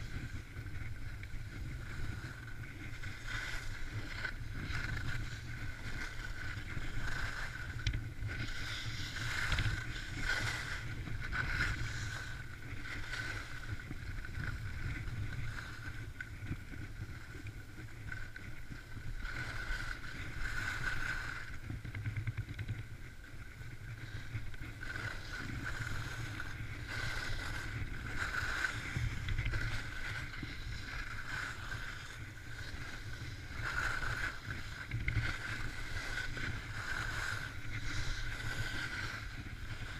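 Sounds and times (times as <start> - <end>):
skis scraping over snow: 0.0 - 39.9
wind rumble on microphone: 0.0 - 39.9.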